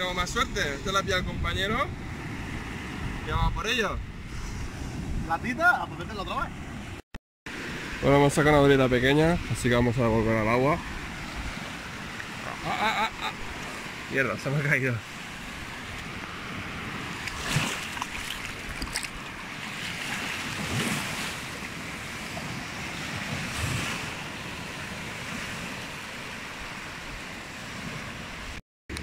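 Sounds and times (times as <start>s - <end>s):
small waves breaking on sand: 1.8s - 3.4s, 4.2s - 28.6s.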